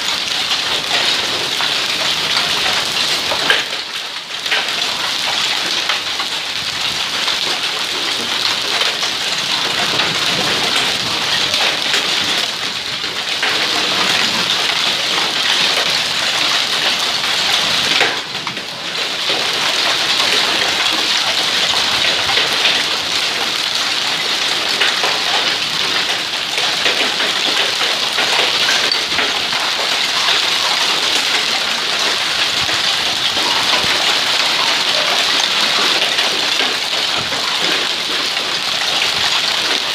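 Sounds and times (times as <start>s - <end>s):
hail and rain on paving: 0.0s - 39.9s
rain splashing into pool: 0.0s - 39.9s.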